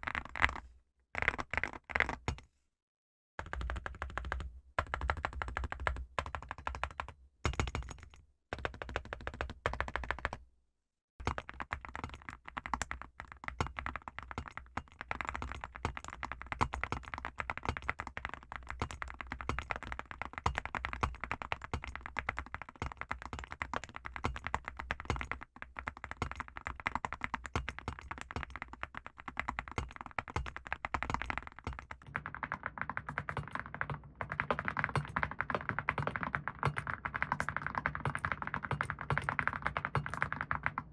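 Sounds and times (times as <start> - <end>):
fast mechanical keyboard typing: 3.4 - 10.4, 11.2 - 40.9.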